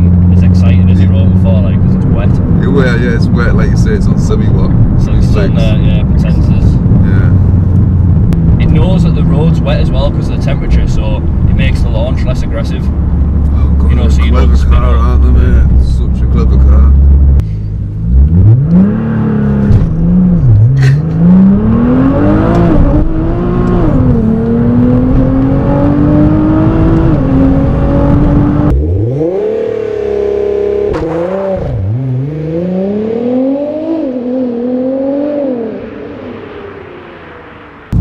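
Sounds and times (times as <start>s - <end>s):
car engine accelerating hard: 0.0s - 38.0s.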